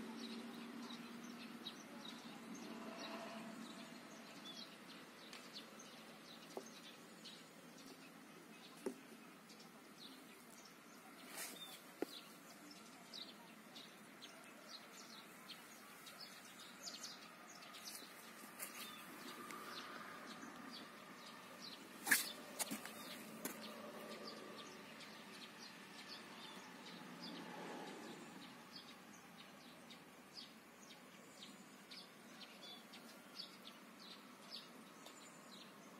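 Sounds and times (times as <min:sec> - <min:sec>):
faint birds chirping: 0:00.0 - 0:35.9.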